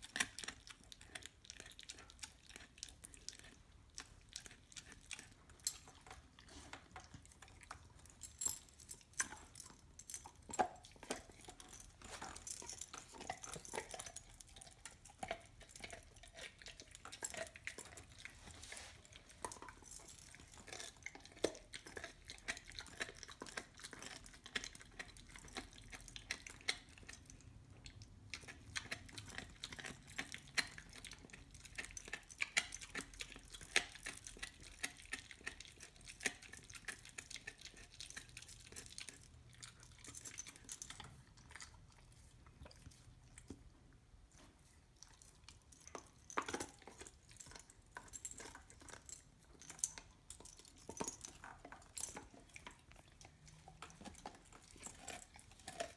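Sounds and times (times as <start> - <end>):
dog gnawing bone: 0.0 - 55.9.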